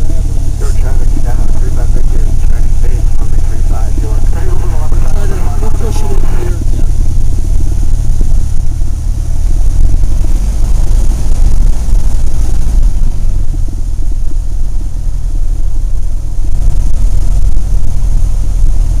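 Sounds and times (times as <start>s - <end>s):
plane engine droning in cabin: 0.0s - 19.0s.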